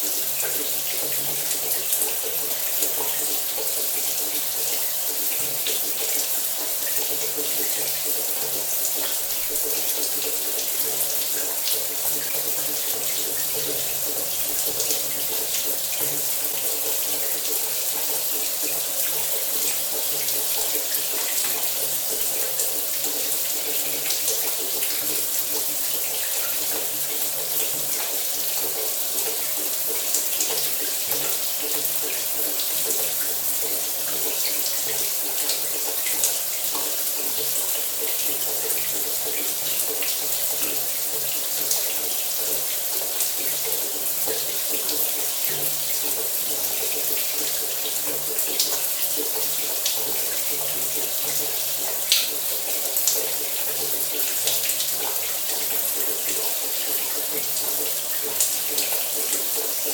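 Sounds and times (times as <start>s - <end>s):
shower running: 0.0s - 59.9s.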